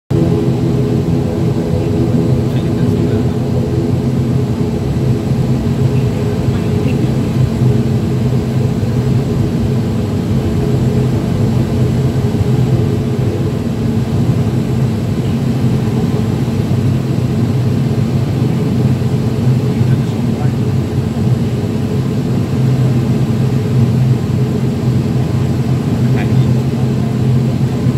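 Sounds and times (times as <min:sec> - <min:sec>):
turboprop engines droning: 0:00.1 - 0:27.9.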